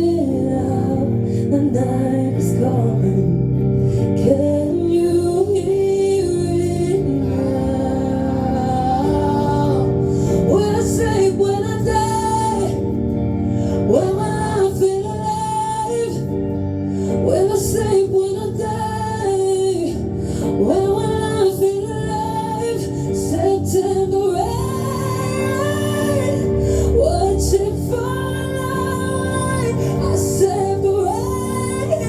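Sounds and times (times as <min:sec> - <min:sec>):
acoustic guitar chords: 0:00.0 - 0:32.0
woman singing: 0:00.0 - 0:32.0.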